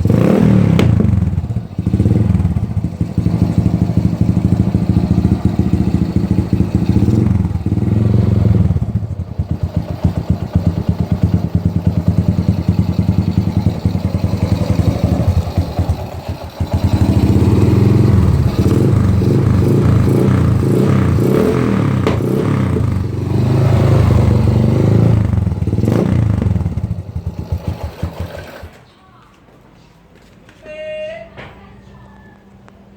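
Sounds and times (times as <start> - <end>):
motorcycle engine revving and idling: 0.0 - 28.7.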